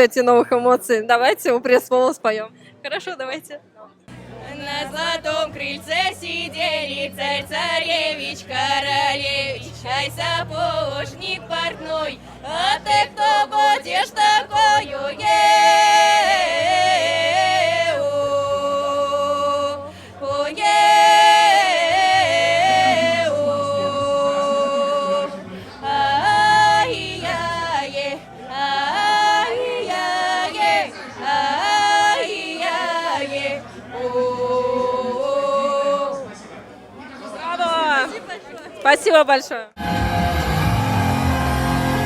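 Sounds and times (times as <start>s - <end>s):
women's choir singing a cappella: 4.3s - 36.6s, 39.8s - 42.0s.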